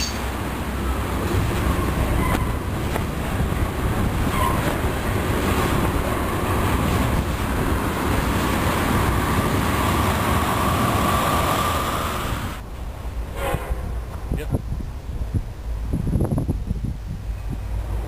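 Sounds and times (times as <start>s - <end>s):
steel wheels rumbling on rail: 0.0s - 18.0s.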